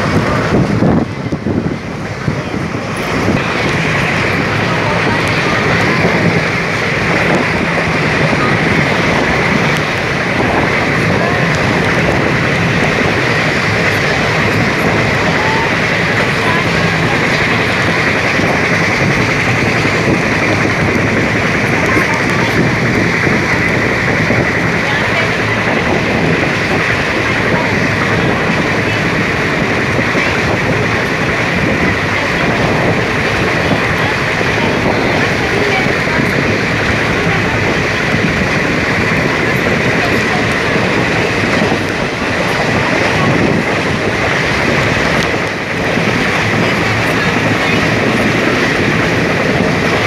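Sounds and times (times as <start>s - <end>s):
train coach running at speed: 0.0s - 50.0s
wind rushing over microphone: 0.0s - 50.0s.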